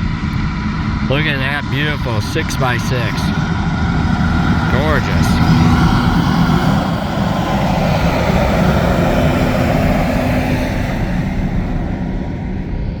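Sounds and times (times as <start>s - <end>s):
dump truck diesel engine running: 0.7s - 12.7s.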